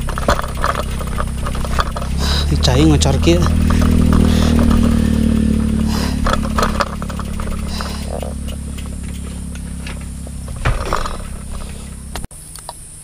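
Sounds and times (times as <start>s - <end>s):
clicks and rattles: 0.0s - 12.3s
vehicle engine running: 0.0s - 12.3s.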